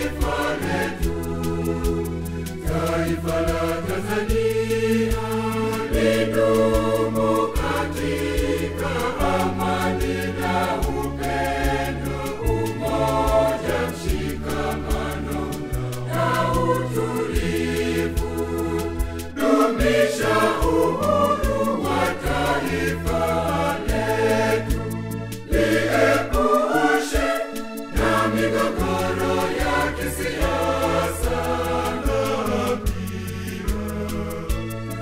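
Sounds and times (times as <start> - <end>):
backing track with bass and beat: 0.0 - 35.0
mixed choir singing: 0.0 - 35.0.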